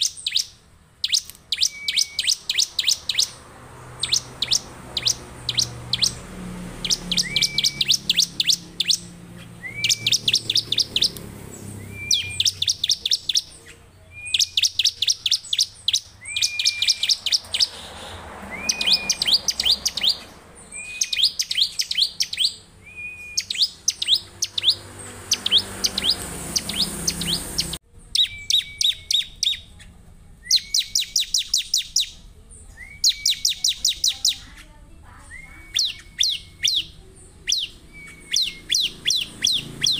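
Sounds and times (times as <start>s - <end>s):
bird singing high sharp chips: 0.0s - 39.9s.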